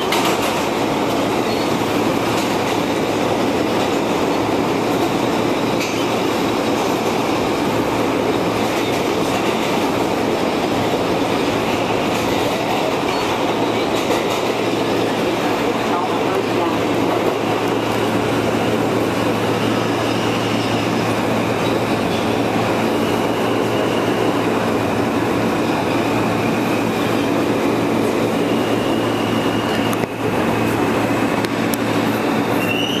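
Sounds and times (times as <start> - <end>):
rumble of wheels on rails: 0.0 - 33.0.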